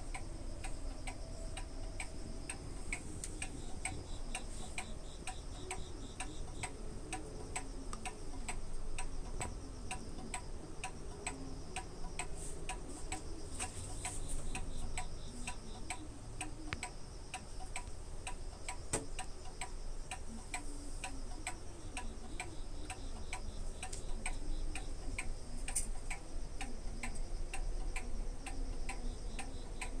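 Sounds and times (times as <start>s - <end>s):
faint high-pitched hum: 0.0s - 30.0s
steady ticking: 0.0s - 30.0s.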